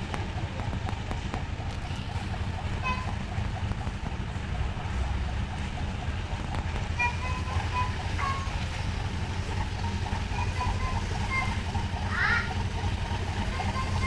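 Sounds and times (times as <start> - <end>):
ferry engines rumbling: 0.0 - 14.0
wind: 0.0 - 14.0.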